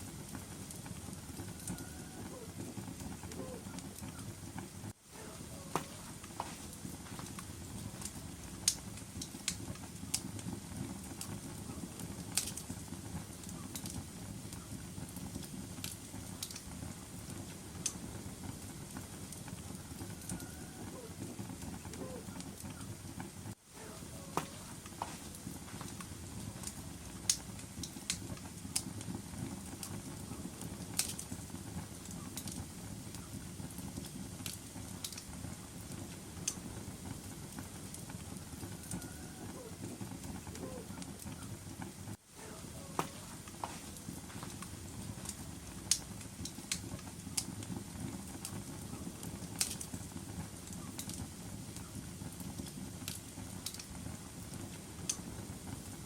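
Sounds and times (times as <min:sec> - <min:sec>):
fire burning in fireplace: 0:00.0 - 0:56.0
logs crackling and popping: 0:00.0 - 0:56.0.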